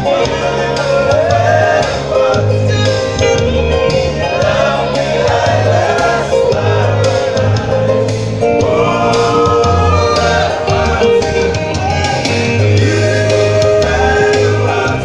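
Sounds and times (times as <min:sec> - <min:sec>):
men singing in harmony: 0:00.0 - 0:15.0.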